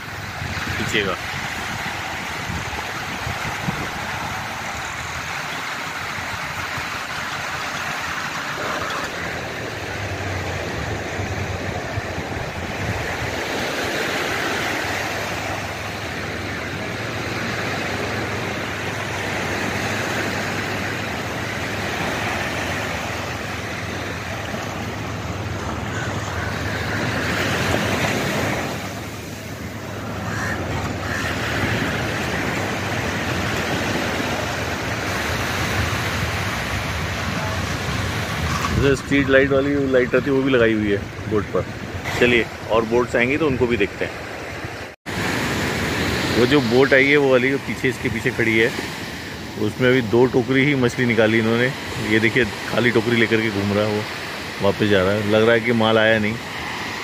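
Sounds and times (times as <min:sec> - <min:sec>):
surf washing onto beach: 0:00.0 - 0:57.0.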